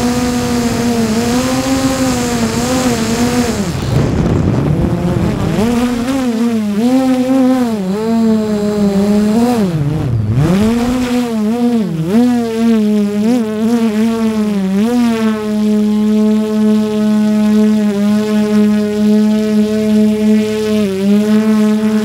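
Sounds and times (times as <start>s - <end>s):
drone propellers whirring: 0.0s - 22.0s.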